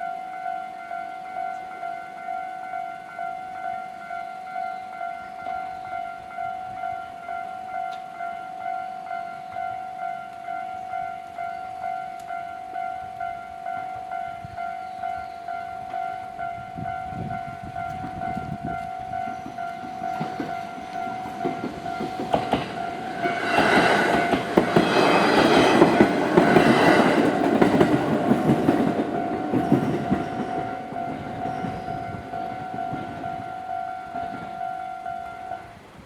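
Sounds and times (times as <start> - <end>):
crossing warning bell: 0.0 - 36.0
train rumble and wheel clatter: 0.0 - 36.0.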